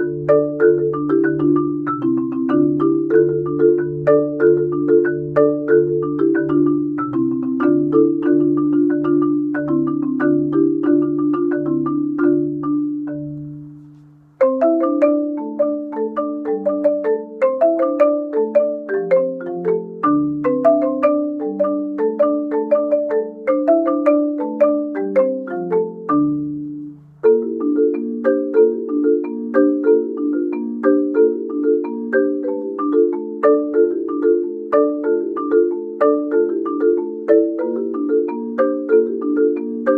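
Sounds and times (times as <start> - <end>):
marimba playing: 0.0 - 39.9.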